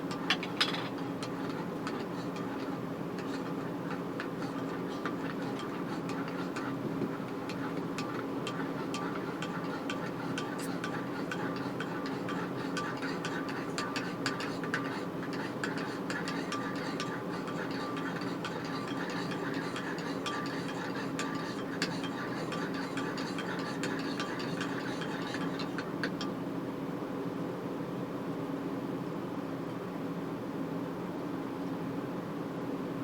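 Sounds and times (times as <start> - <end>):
steady hum: 0.0 - 26.5.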